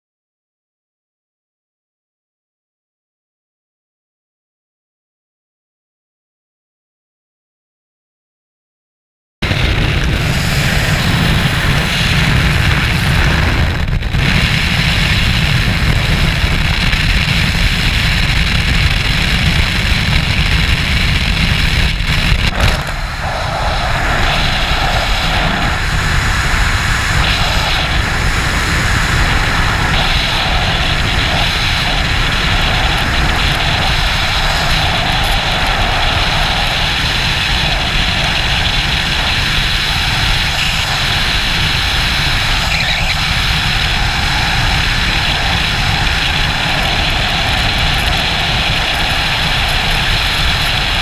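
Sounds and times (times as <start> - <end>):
freefall wind rushing over helmet: 9.4 - 51.0
plane engines roaring: 9.4 - 51.0
wind at open door: 9.4 - 51.0.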